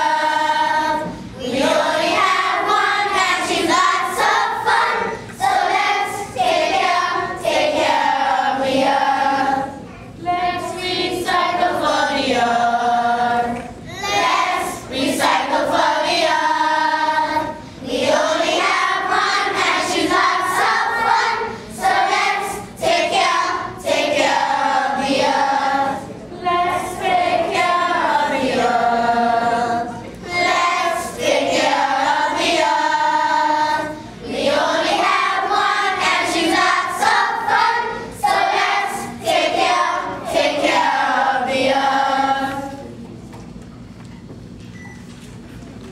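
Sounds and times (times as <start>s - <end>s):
children's choir singing: 0.0s - 43.0s.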